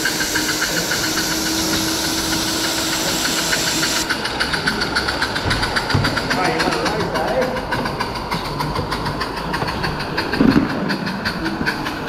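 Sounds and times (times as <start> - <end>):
steam hiss: 0.0 - 12.0
steam locomotive exhaust beats: 0.0 - 12.0.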